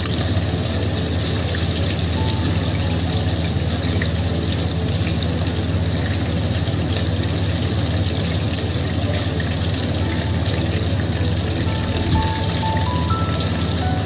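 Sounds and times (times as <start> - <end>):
fish deep-frying in hot oil: 0.0 - 14.0.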